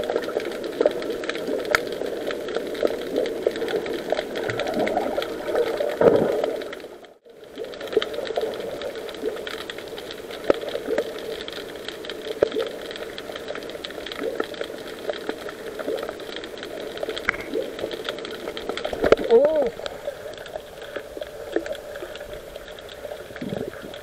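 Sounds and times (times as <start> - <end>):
muffled underwater water hiss: 0.0 - 24.0
small crackling clicks and taps: 0.0 - 24.0.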